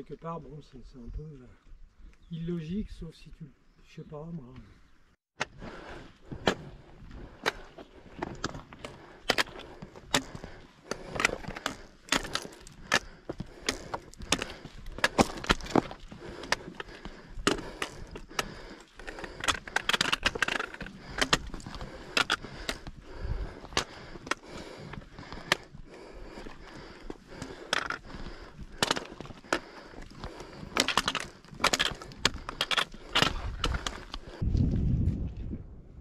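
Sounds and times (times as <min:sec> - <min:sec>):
footsteps on rocky trail: 0:05.5 - 0:35.3.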